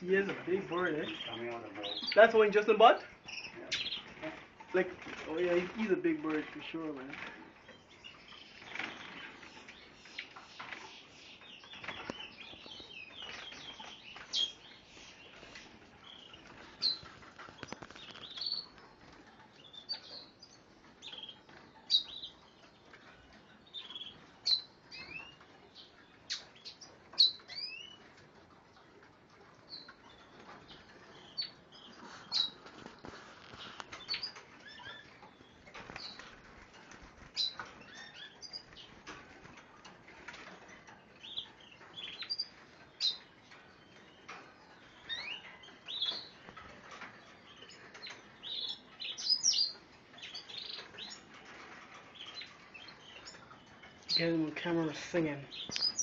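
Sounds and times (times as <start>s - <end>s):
small birds chirping: 0.0s - 56.0s
wings fluttering against cages: 0.0s - 56.0s.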